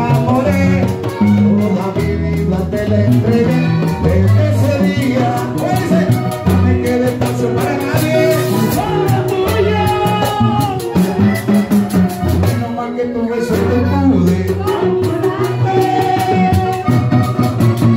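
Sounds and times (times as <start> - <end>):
bass line: 0.0 - 17.9
person singing: 0.0 - 17.9.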